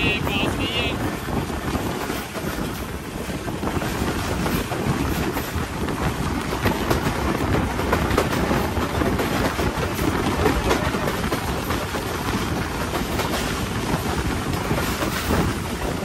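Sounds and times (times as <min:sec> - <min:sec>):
clickety-clack of wheels: 0:00.0 - 0:16.0
train rumble: 0:00.0 - 0:16.0.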